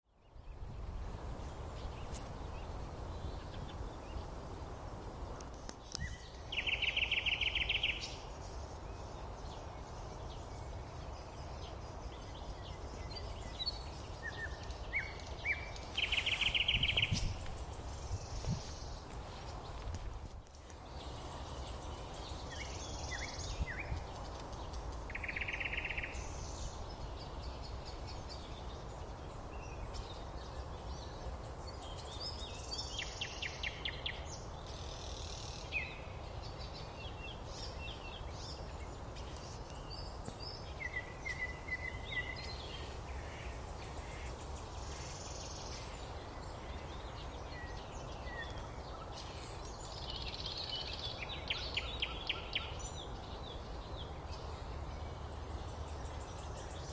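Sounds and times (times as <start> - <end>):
birds chirping and trilling: 0.1 - 56.9.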